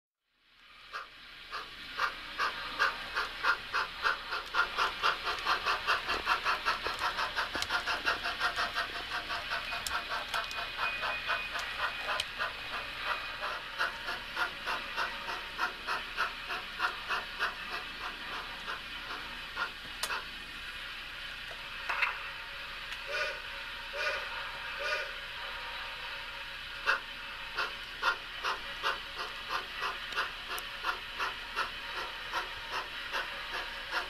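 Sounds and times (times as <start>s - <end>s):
model steam locomotive chuffing: 0.4s - 34.0s.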